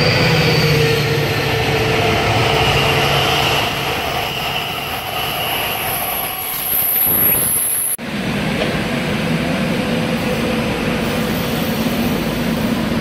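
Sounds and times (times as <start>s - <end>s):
diesel locomotive engine passing: 0.0s - 13.0s
train cars rolling on rails: 0.0s - 13.0s.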